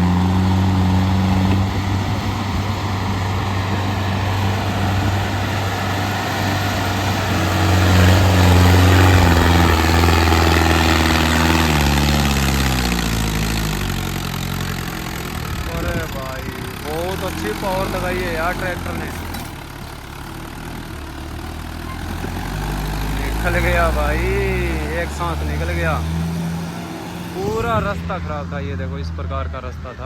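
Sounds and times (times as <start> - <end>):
tractor engine under heavy load: 0.0 - 30.0.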